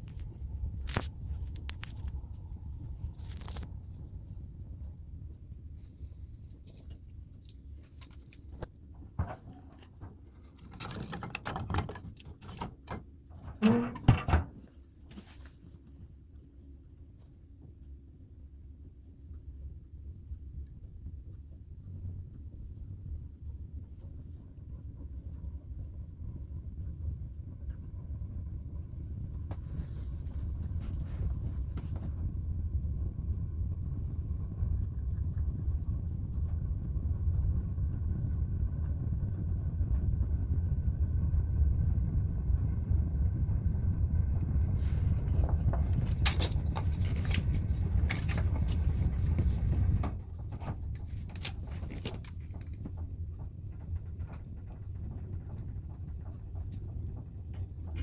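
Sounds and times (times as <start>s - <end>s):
fire crackles and snaps: 0.0s - 10.7s, 14.6s - 58.0s
fire rumbling in fireplace: 0.0s - 58.0s.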